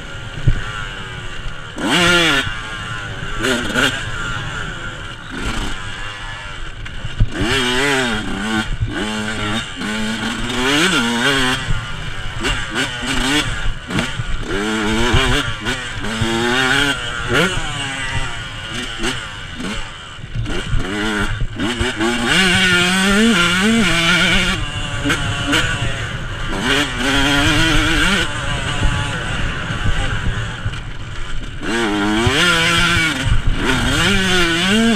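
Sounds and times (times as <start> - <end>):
motocross engine revving: 0.0 - 34.9.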